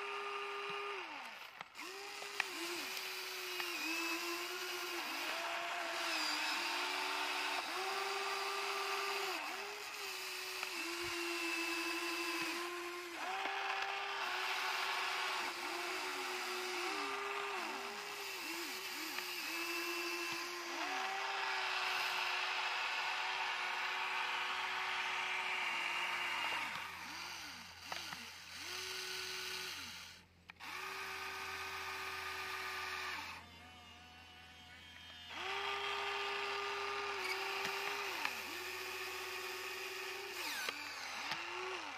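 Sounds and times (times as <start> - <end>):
small electric motors whining: 0.0 - 41.9.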